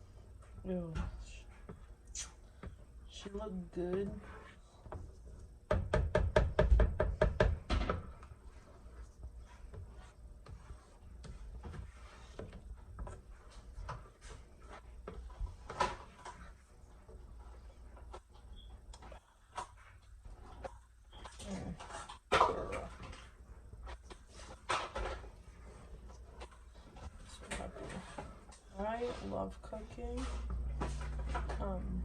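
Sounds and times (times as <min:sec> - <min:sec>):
spoon stirring in pot: 0:01.2 - 0:31.6.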